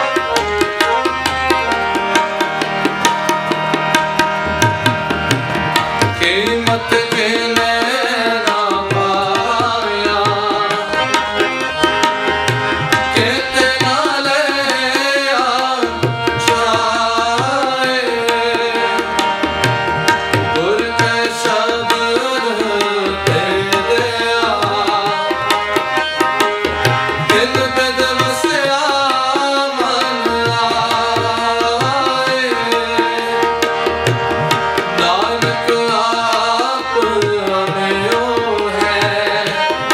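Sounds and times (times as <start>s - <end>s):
devotional melody: 0.0s - 39.9s
tabla drumming: 0.0s - 39.9s.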